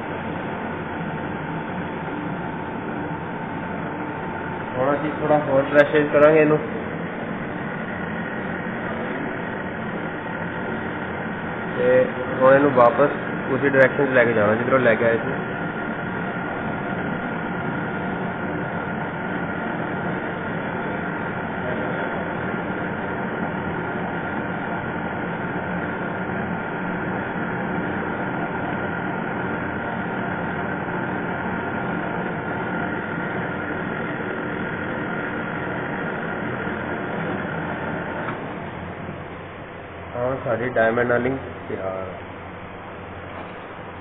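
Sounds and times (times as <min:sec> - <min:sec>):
lathe humming and whining: 0:00.0 - 0:44.0.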